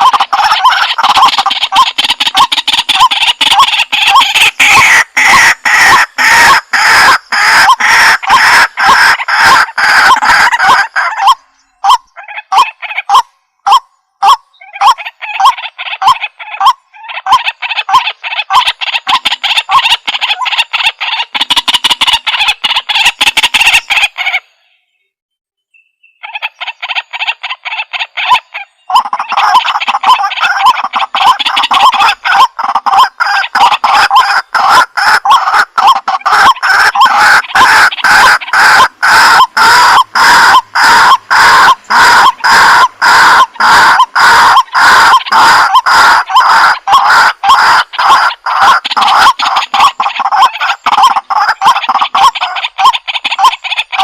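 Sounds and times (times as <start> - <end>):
waterhen calling: 0.0 - 25.0, 26.0 - 54.0.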